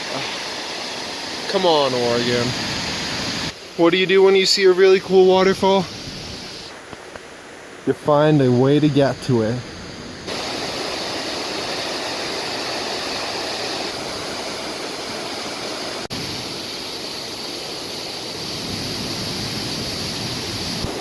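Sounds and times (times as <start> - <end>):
waterfall rushing: 0.0 - 6.8, 10.3 - 21.0.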